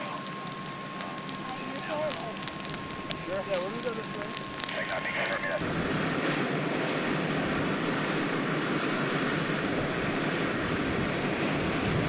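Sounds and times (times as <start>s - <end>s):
fire engine rumble: 0.0s - 12.0s.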